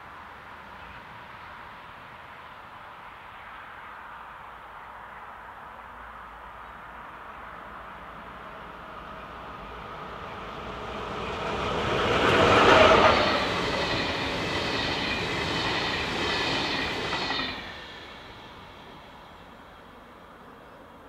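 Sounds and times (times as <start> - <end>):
passenger train passing at speed: 0.0 - 21.0.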